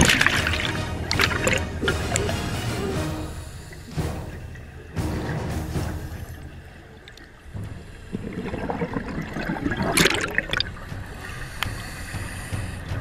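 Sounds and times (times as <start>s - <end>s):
underwater bubbles gurgling: 0.0s - 11.7s.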